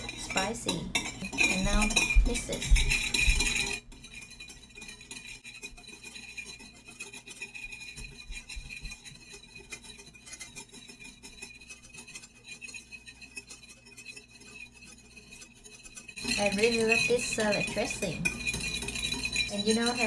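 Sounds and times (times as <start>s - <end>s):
whisk scraping a bowl: 0.0s - 20.0s.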